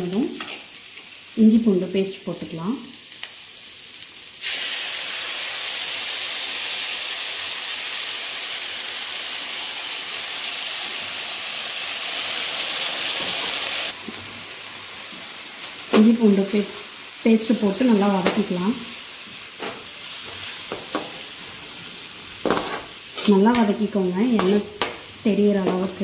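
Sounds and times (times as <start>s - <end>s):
hot oil sizzling loudly: 0.0s - 26.0s.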